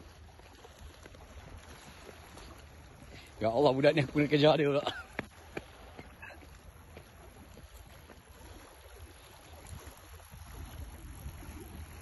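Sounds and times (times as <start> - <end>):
water washing at shoreline: 0.0 - 12.0
wind rumble on microphone: 0.0 - 12.0.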